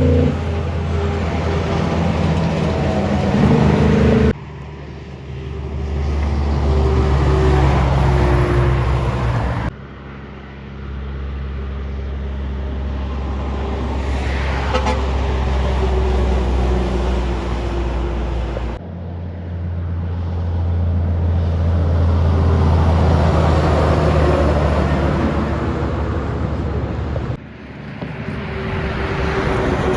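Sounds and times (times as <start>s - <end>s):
diesel truck engines driving past: 0.0s - 29.9s
tyre and road noise: 0.0s - 29.9s.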